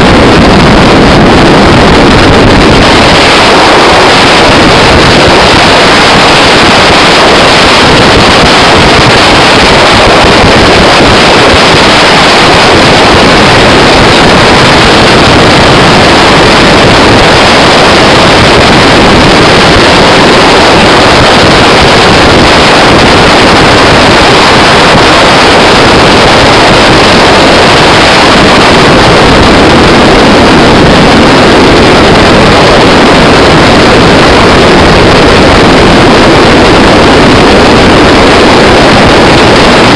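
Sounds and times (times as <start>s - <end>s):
boat engine: 0.0s - 39.9s
wind on microphone: 0.0s - 39.9s.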